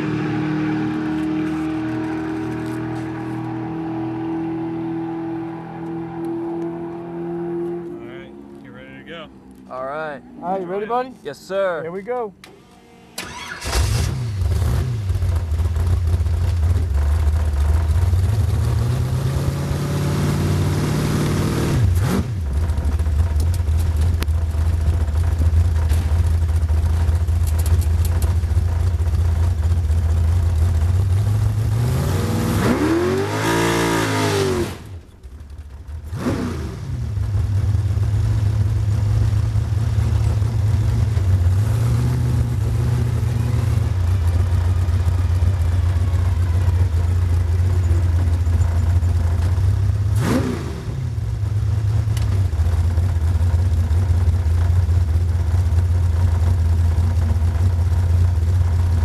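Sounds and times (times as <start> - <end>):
dragster engine idling and revving: 0.0 - 11.2, 12.6 - 59.0.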